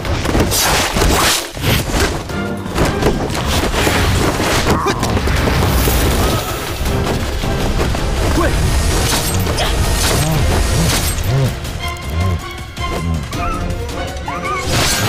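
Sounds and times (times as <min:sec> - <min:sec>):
soundtrack music: 0:01.6 - 0:15.0.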